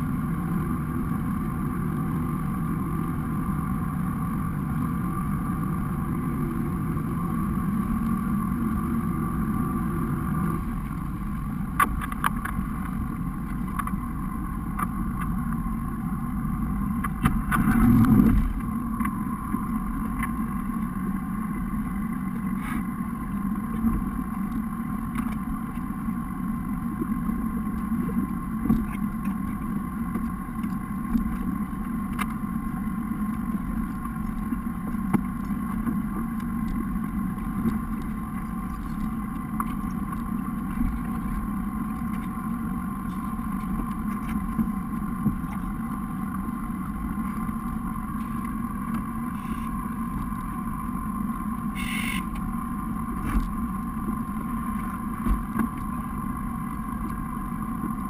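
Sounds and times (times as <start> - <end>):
boat engine running: 0.0 - 58.0
water and wind rush: 0.0 - 58.0.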